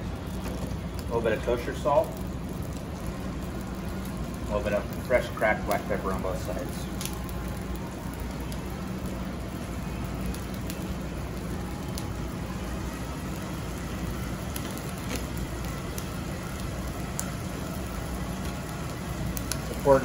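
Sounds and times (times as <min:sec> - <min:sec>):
butter sizzling in pan: 0:00.0 - 0:20.0.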